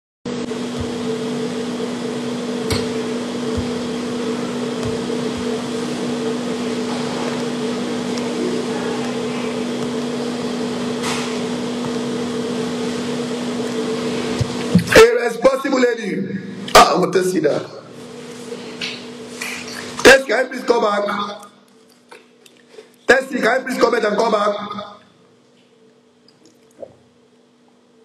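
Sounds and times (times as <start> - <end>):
steady machine hum: 0.3 - 28.0.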